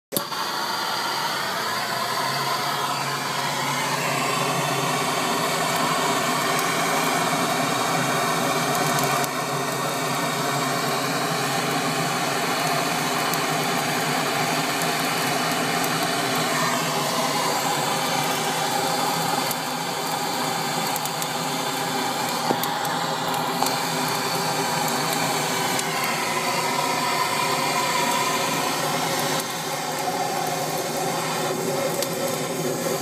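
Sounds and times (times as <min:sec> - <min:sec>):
hand torch hissing: 0:00.1 - 0:33.0
charcoal crackling: 0:02.7 - 0:33.0.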